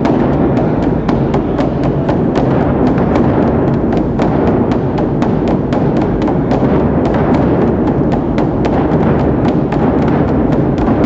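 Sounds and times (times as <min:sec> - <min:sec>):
large drums booming: 0:00.0 - 0:11.0.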